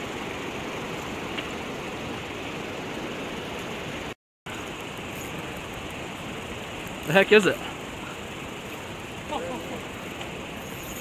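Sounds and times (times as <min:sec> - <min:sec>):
turbulent river water rushing: 0:00.0 - 0:11.0.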